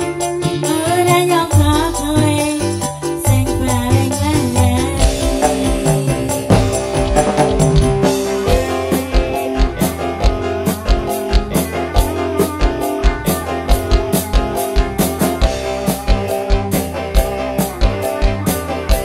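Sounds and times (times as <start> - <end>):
band playing through speakers: 0.0 - 19.0
fast drum beat: 0.0 - 19.0.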